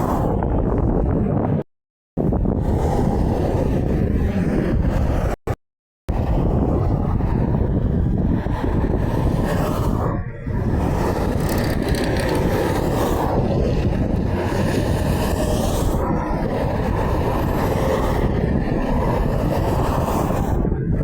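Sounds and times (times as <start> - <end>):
wind on microphone: 0.0 - 1.6, 2.2 - 5.5, 6.1 - 21.0.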